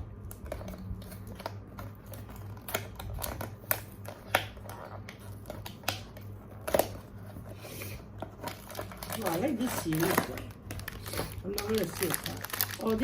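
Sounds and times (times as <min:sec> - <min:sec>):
packaging rustling: 0:00.3 - 0:13.0.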